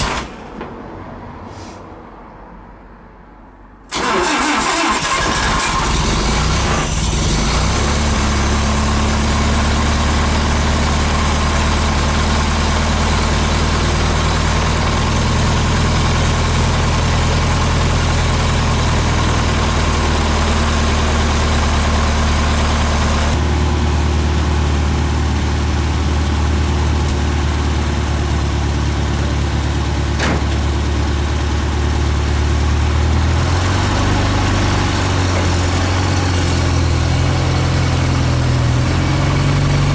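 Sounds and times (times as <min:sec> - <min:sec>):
truck engine idling: 0:03.9 - 0:39.9.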